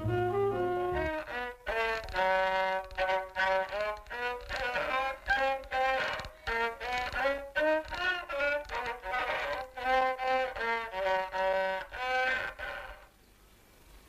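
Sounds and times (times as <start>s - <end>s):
violin playing short notes: 0.0s - 13.1s.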